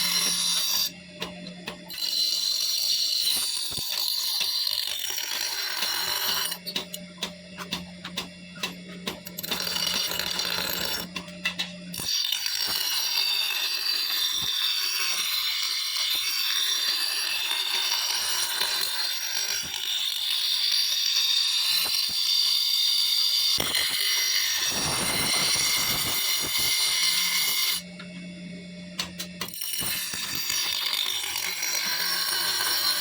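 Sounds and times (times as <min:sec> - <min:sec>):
grinder grinding steel: 0:00.0 - 0:01.0, 0:01.9 - 0:07.0, 0:09.2 - 0:11.2, 0:12.0 - 0:27.9, 0:29.0 - 0:33.0.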